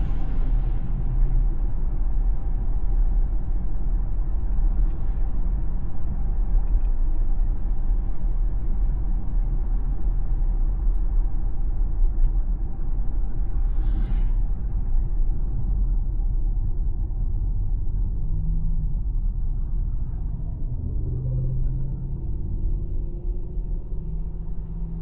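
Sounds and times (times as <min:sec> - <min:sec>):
road and tyre rumble: 0:00.0 - 0:25.0.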